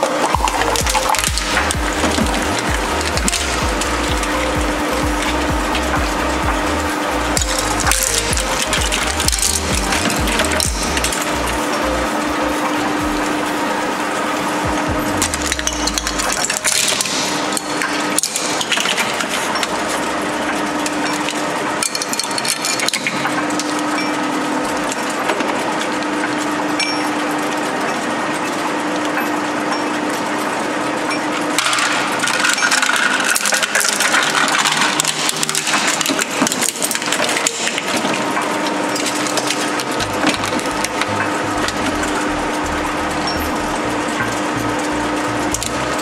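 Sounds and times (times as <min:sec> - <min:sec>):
plastic crunching and cracking: 0:00.0 - 0:26.8, 0:30.1 - 0:46.0
shredder motor humming: 0:00.0 - 0:46.0.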